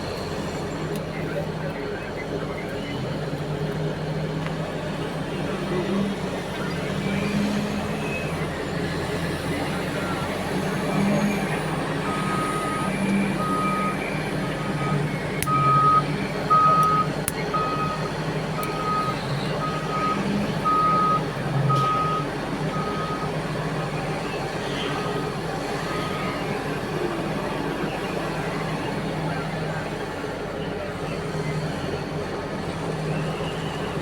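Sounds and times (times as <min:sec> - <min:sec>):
heavy diesel engines running: 0:00.0 - 0:34.0
truck reversing alarm beeping: 0:04.6 - 0:34.0.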